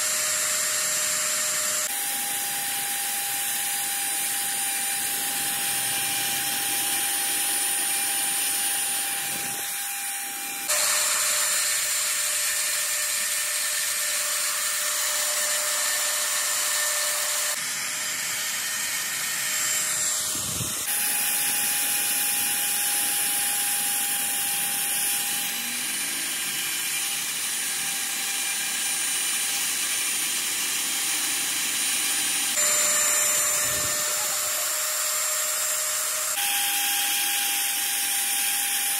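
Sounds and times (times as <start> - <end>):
drill press drilling metal: 0.0 - 38.9.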